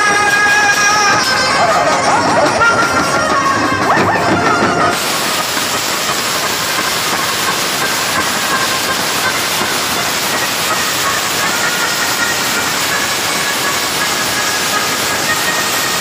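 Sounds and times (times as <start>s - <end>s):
loud steady hissing: 0.0s - 16.0s.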